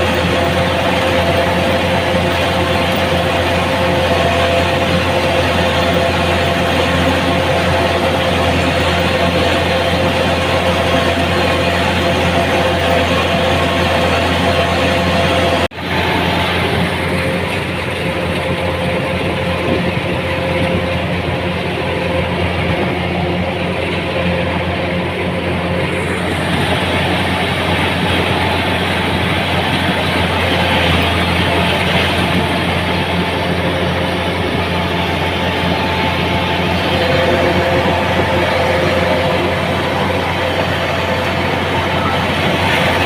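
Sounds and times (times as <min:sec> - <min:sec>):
machine engine running: 0:00.0 - 0:43.0.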